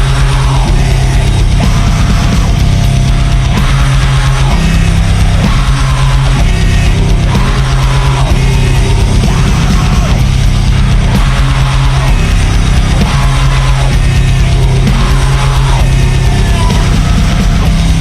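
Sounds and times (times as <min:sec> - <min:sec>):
distorted guitars and bass: 0:00.0 - 0:18.0
drums: 0:00.0 - 0:18.0.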